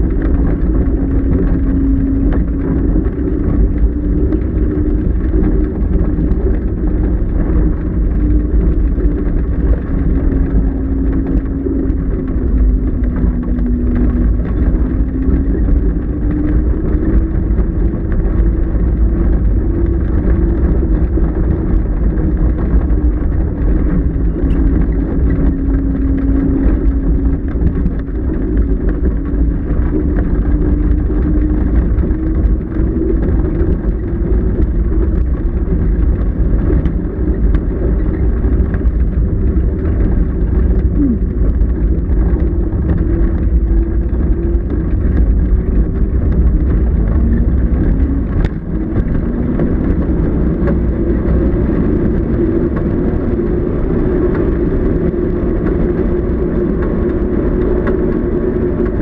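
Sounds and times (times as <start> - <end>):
loud low vehicle rumble: 0.0 - 59.0.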